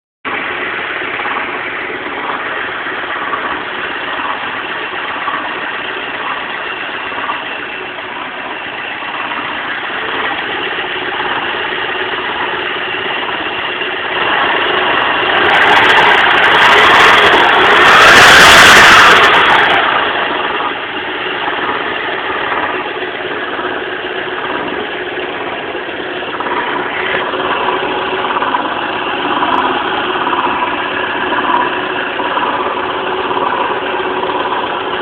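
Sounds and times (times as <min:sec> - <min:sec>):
car engine idling: 0:00.2 - 0:35.0.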